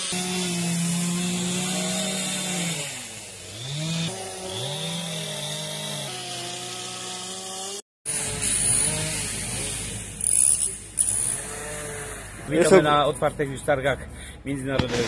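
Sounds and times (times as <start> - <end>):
chainsaws carving wood: 0.0 - 12.8.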